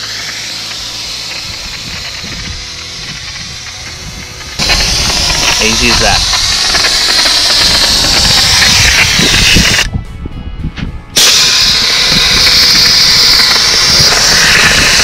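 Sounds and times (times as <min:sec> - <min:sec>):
air hissing out of tyres: 0:00.0 - 0:09.9, 0:11.2 - 0:15.0.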